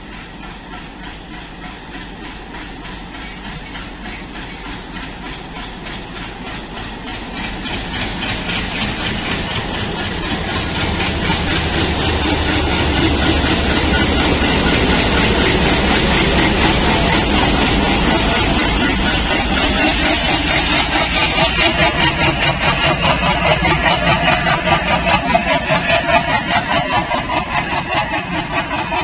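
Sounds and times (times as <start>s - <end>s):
diesel locomotive engine throbbing: 0.0s - 29.0s
train cars rolling: 0.0s - 29.0s.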